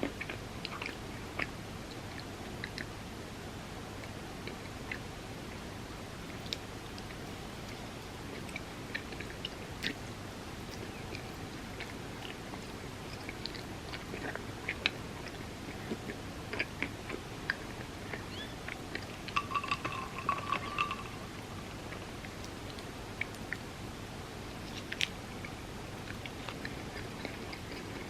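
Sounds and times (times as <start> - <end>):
close chewing and mouth sounds: 0.0 - 28.0.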